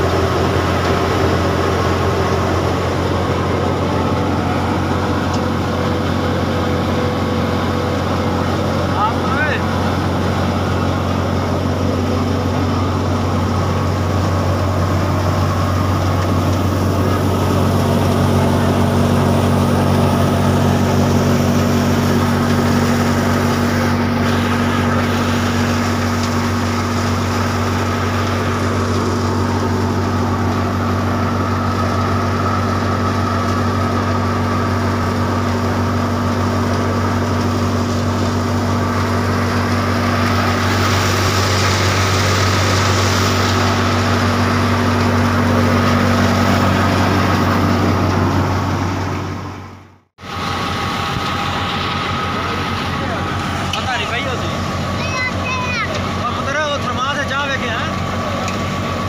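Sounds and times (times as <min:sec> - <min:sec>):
thresher drum and fan whirring: 0:00.0 - 0:59.0
tractor diesel engine running: 0:00.0 - 0:59.0.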